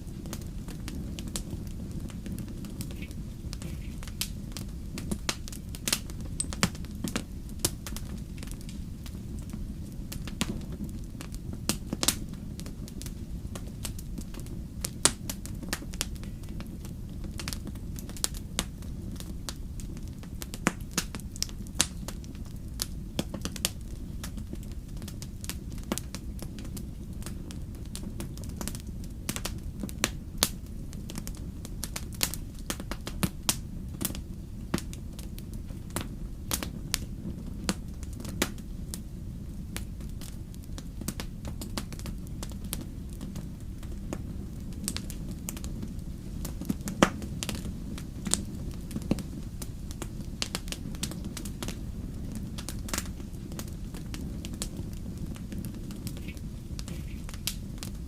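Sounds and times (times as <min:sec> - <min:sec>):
low rumble of flames: 0:00.0 - 0:58.0.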